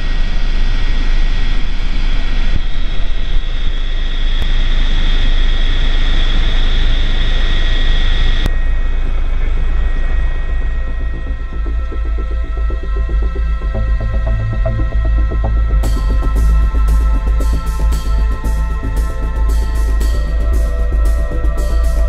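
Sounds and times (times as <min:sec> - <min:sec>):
air noise: 0:00.0 - 0:22.0
helicopter engine whine: 0:00.0 - 0:22.0
rotor rumble: 0:00.0 - 0:22.0.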